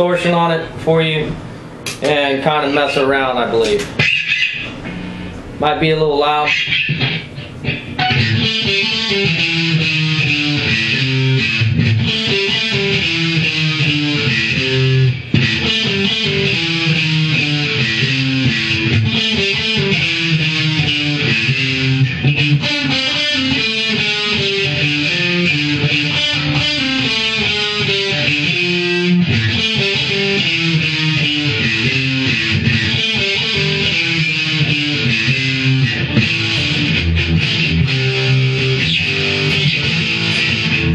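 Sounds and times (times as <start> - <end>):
distorted electric guitar riffs: 0.0 - 40.9.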